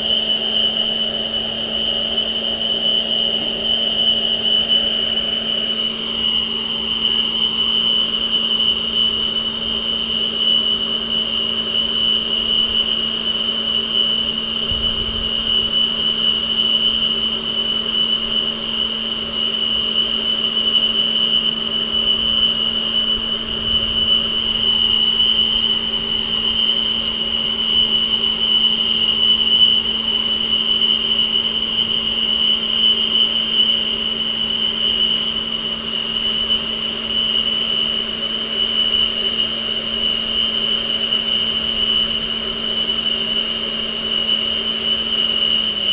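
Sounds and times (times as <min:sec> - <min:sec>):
high-pitched whine: 0:00.0 - 0:45.9
steady hum: 0:00.0 - 0:45.9.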